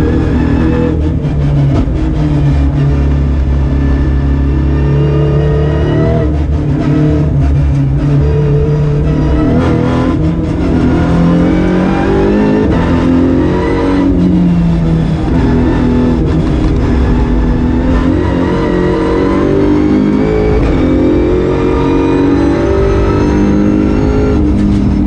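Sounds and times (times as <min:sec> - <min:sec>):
race car engine accelerating: 0:00.0 - 0:25.0.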